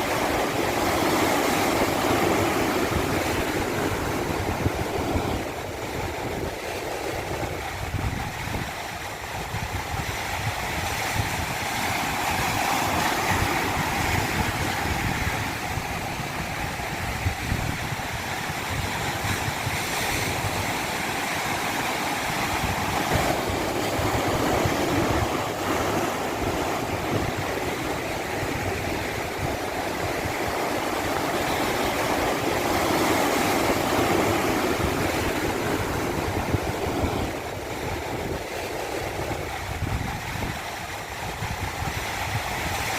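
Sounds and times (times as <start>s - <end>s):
rushing water hiss: 7.2s - 42.9s.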